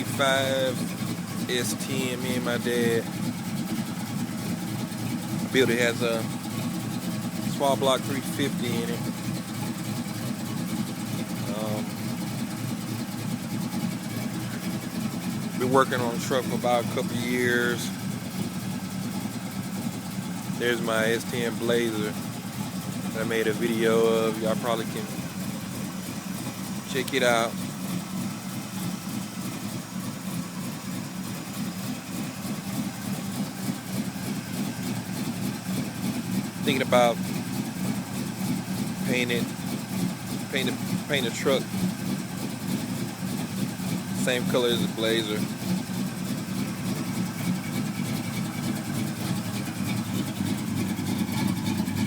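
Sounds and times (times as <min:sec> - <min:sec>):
vee eight engine idling: 0:00.0 - 0:52.0.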